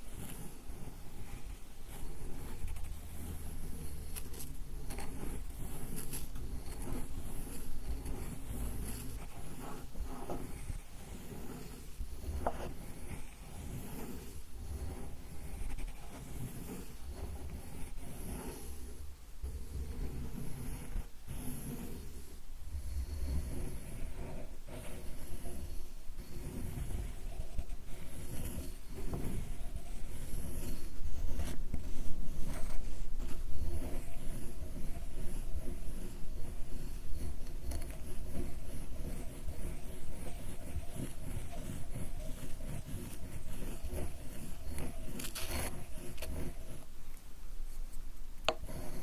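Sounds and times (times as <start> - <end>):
ink stick rubbing on stone: 0.0 - 49.0.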